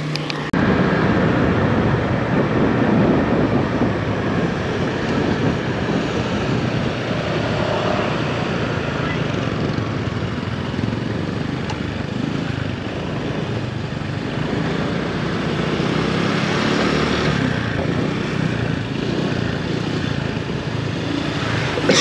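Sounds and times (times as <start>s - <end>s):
scooter engine running: 0.0s - 0.5s, 3.8s - 22.0s
road and wind noise: 0.0s - 22.0s.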